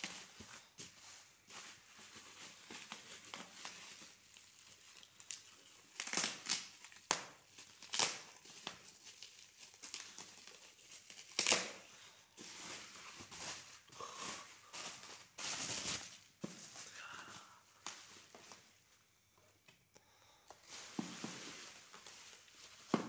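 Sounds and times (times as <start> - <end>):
bubble wrap crinkling: 0.0 - 19.1, 20.3 - 23.0.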